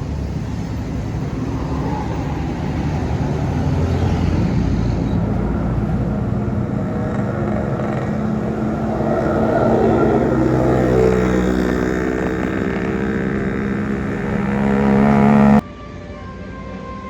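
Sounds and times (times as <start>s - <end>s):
vehicle engine humming: 0.0s - 15.6s.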